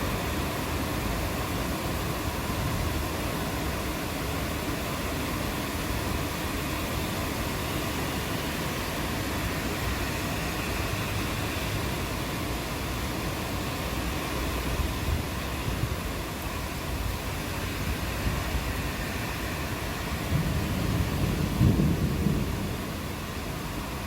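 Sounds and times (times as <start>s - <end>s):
steady rainfall: 0.0s - 24.0s.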